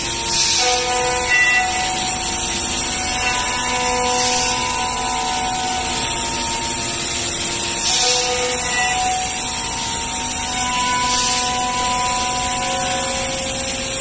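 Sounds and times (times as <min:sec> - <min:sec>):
cnc cutter milling wood: 0:00.0 - 0:14.0.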